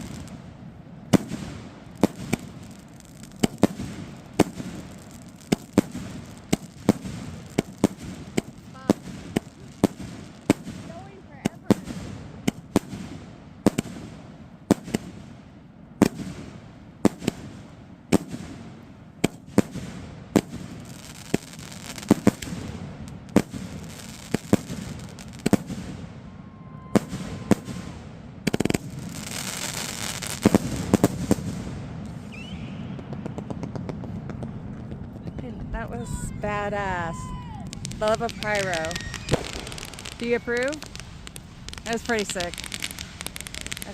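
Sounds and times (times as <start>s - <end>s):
fireworks crackling: 0.0s - 43.9s
fireworks firing: 0.0s - 43.9s.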